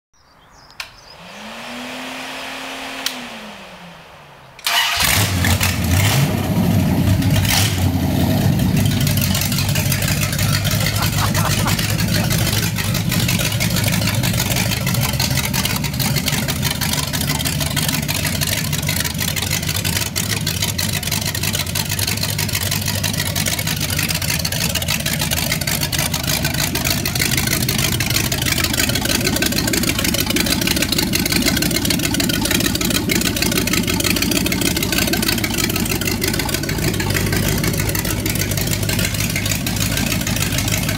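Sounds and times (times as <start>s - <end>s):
engine running steadily: 0.7s - 40.9s
engine cranking and starting: 4.6s - 40.9s.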